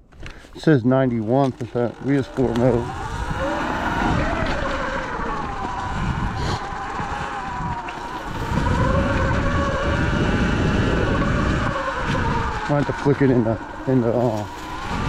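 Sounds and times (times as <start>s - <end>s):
electric motor whining: 0.2s - 15.0s
low rumble: 1.6s - 15.0s.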